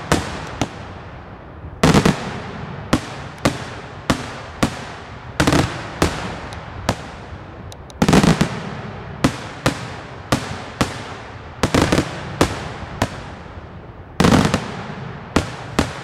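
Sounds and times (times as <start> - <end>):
crackling firework bursts: 0.0 - 16.0
fireworks bangs: 0.0 - 16.0.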